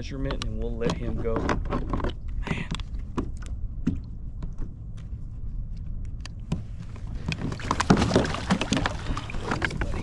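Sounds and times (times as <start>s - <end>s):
knocks and clicks against hull: 0.0s - 5.2s, 5.8s - 10.0s.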